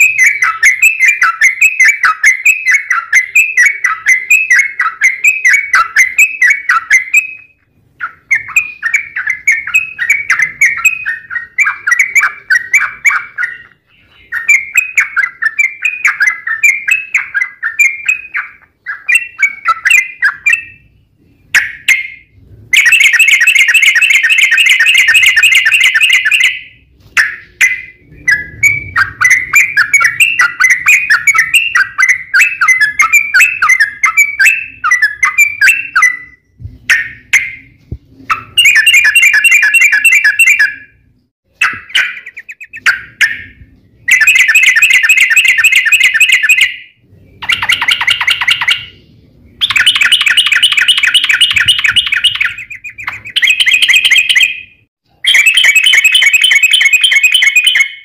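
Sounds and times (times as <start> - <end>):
bird rapid trill: 0.0 - 20.9, 21.5 - 49.0, 49.6 - 58.0
bird singing: 0.0 - 58.0.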